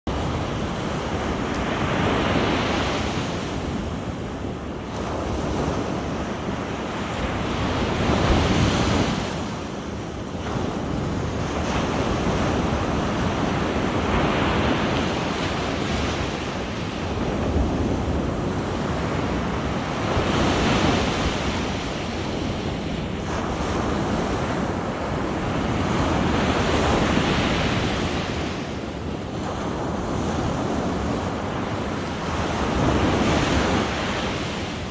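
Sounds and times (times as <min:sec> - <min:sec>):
sea waves breaking on shore: 0:00.1 - 0:34.9.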